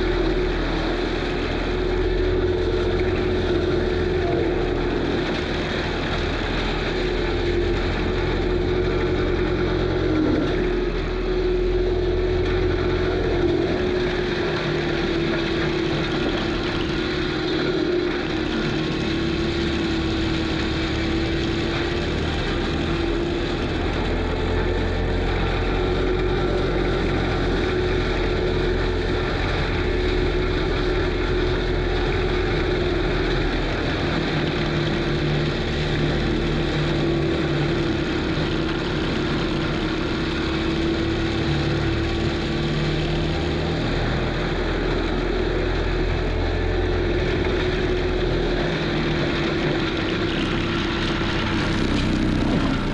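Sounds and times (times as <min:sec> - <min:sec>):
diesel engine running under load: 0:00.0 - 0:52.9
wavering mechanical whine: 0:00.0 - 0:52.9.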